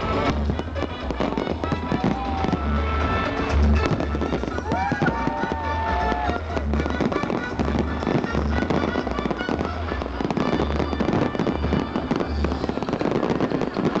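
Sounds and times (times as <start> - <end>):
fireworks cracks and booms: 0.0 - 14.0
loud show music: 0.0 - 14.0.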